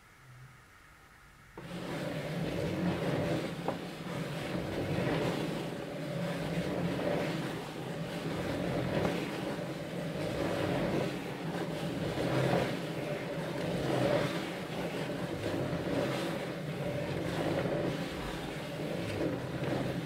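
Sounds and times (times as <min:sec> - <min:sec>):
drawing machine mechanical hum: 0:00.0 - 0:20.0.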